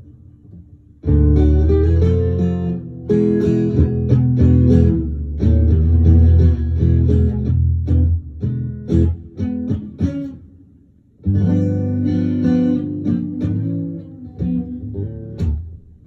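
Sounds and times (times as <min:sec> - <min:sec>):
blues guitar strummed chords: 0:00.0 - 0:16.0.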